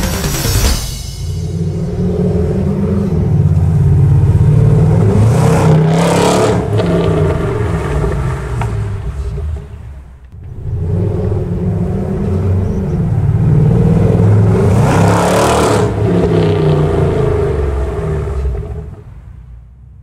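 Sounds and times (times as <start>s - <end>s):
rush of noise: 0.0s - 19.7s
car engine exhaust note: 0.0s - 20.0s.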